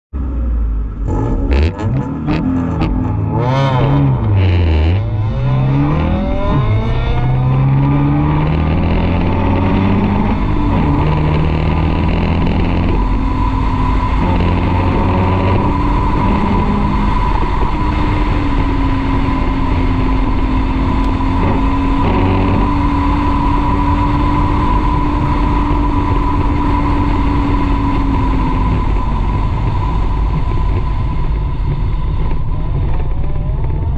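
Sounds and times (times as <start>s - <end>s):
wind: 0.1s - 33.9s
car engine revving: 0.2s - 33.9s.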